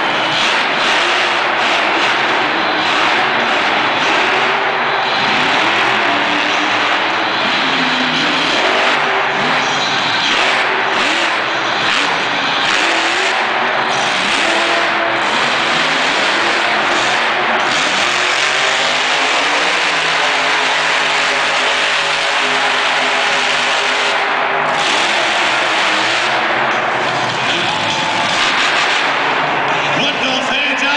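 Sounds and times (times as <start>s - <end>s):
monster truck engine revving: 0.0s - 30.9s.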